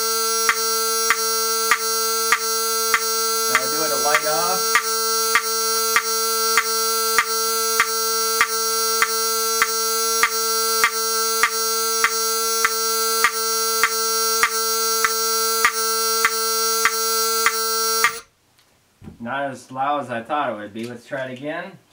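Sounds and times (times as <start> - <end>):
buzzy fire alarm horn: 0.0 - 18.3
sharp alarm click: 0.4 - 18.3.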